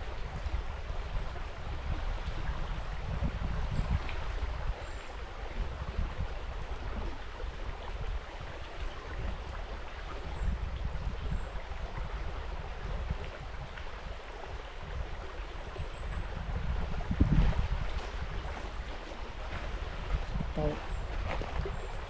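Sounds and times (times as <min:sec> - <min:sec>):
river water flowing: 0:00.0 - 0:22.0
wind on microphone: 0:00.0 - 0:22.0.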